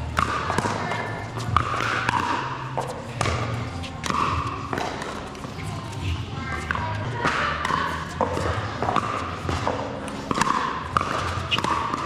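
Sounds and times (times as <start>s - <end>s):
paddles hitting plastic ball: 0.0s - 5.6s, 6.6s - 12.0s
footsteps on hard court: 0.0s - 12.0s.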